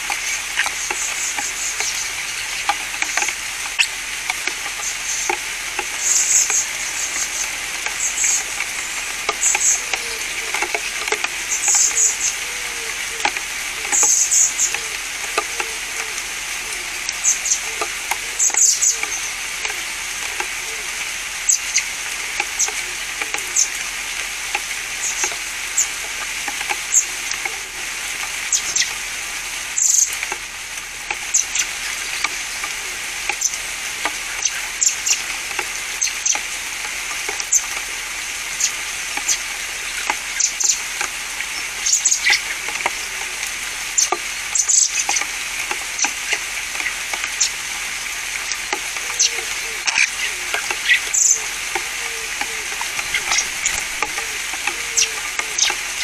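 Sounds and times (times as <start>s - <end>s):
drips and ticks: 0.0s - 56.0s
rain falling on foliage: 0.0s - 56.0s.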